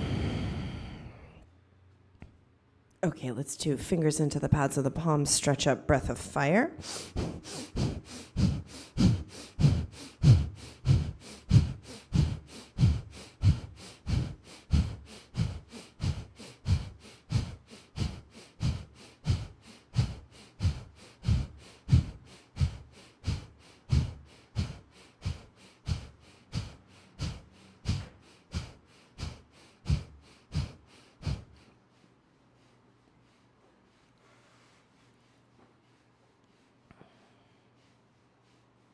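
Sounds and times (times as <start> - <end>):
rapid rhythmic nose breathing: 6.8 - 38.9.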